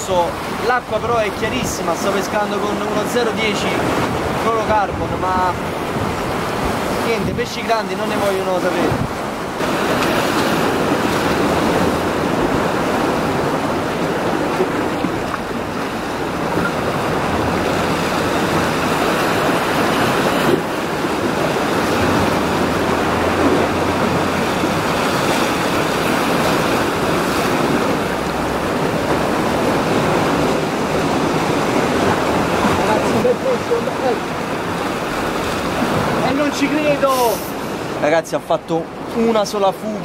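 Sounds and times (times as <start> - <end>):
sea surf breaking against rocks: 0.0 - 40.0.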